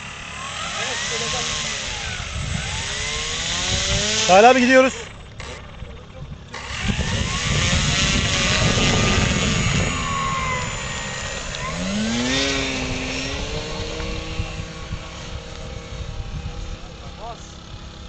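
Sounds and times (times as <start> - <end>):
model plane motor and propeller: 0.0 - 18.0.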